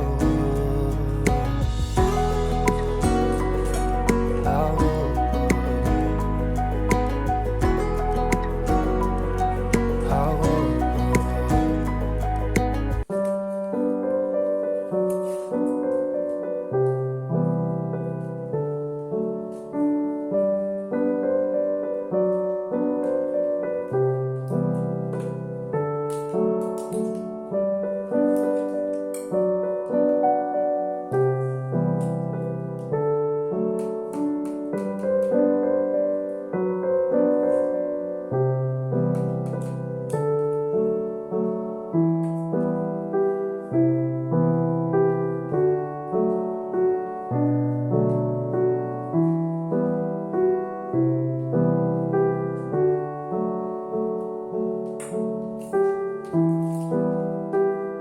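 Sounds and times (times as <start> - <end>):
slow piano music: 0.0 - 58.0.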